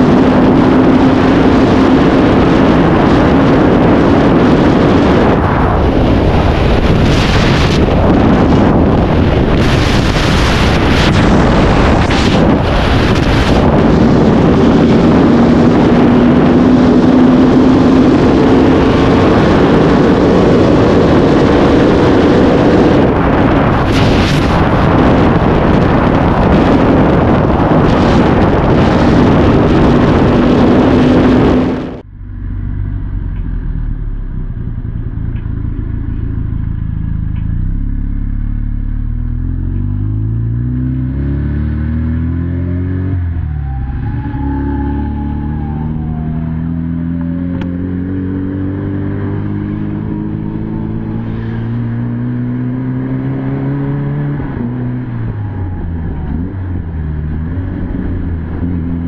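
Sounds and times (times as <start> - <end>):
wind rush on microphone: 0.0 - 32.1, 39.8 - 59.0
motorcycle engine accelerating: 0.0 - 59.0
motorcycle engine droning: 0.0 - 59.0.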